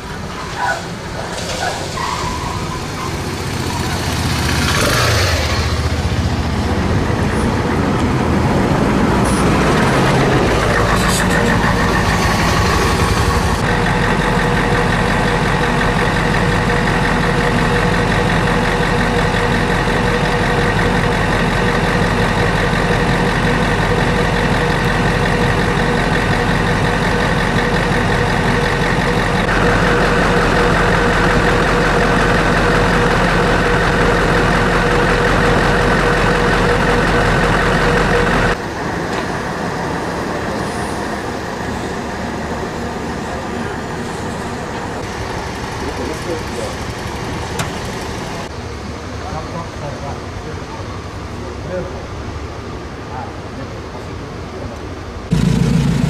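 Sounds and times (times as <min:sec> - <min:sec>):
large vehicle engine idling: 0:00.0 - 0:56.0.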